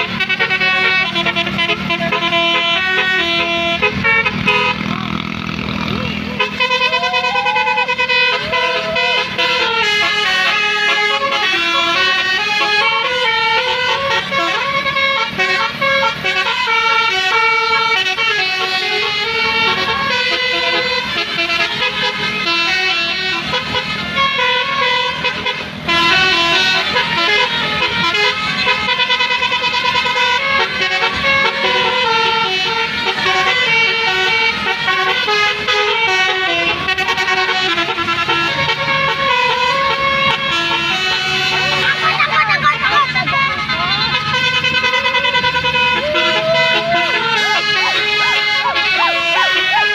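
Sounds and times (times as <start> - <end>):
musical air horn playing tune: 0.0 - 4.9, 6.2 - 49.9.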